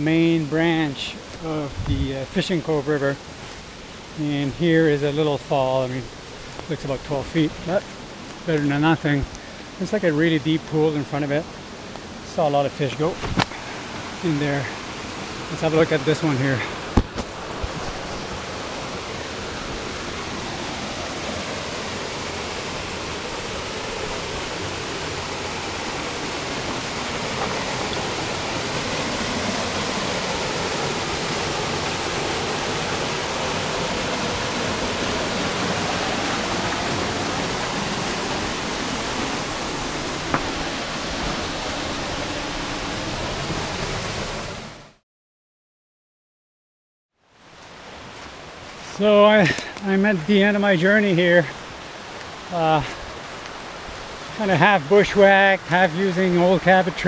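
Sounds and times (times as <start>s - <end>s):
waterfall rushing: 0.0s - 44.9s, 47.4s - 57.0s.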